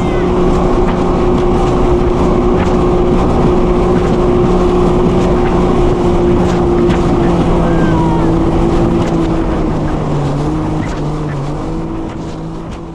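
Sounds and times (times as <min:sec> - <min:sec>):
water rushing: 0:00.0 - 0:12.9
watercraft engine drone: 0:00.0 - 0:12.9
wind: 0:00.0 - 0:12.9.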